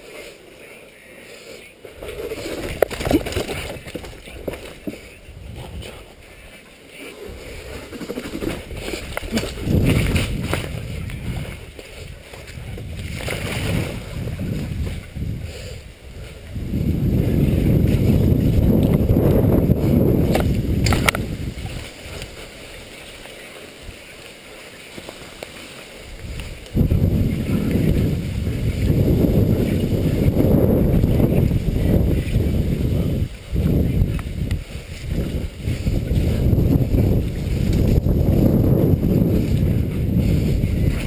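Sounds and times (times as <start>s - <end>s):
bike tyres rumbling: 1.8s - 41.0s
wind buffeting microphone: 1.9s - 24.1s, 25.9s - 41.0s.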